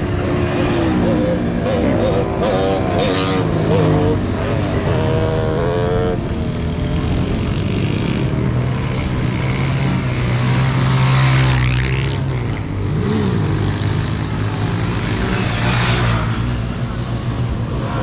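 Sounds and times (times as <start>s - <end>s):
motorcycle engines running: 0.0s - 18.0s
vehicles passing: 0.0s - 18.0s.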